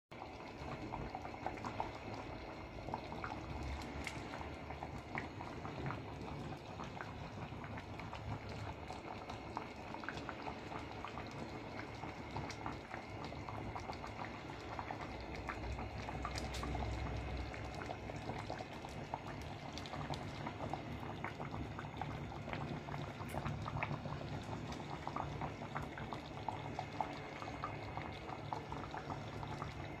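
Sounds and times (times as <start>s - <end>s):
sauce bubbling in frying pan: 0.2s - 30.0s.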